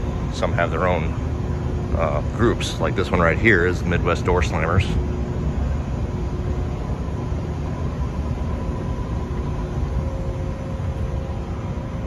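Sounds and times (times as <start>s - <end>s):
faint steady hum: 0.0s - 12.0s
indoor hall rumble: 0.0s - 12.0s.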